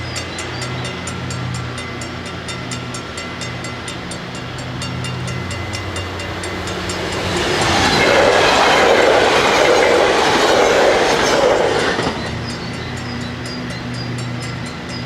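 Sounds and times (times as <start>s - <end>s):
crossing warning bells ringing: 0.0s - 15.0s
train passing with wheel clatter: 0.0s - 15.0s.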